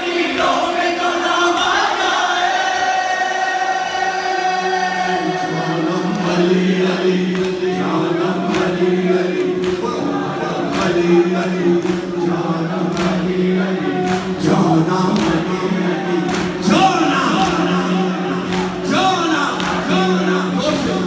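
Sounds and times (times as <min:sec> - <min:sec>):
crowd singing along: 0:00.0 - 0:21.0
man singing into a microphone: 0:00.0 - 0:21.0.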